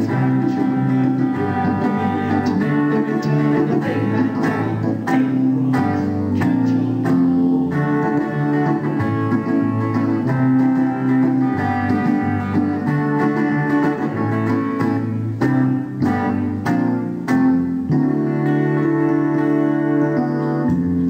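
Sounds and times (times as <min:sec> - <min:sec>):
bass line: 0:00.0 - 0:21.0
electric guitar chords: 0:00.0 - 0:21.0
electronic keyboard chords: 0:00.0 - 0:21.0.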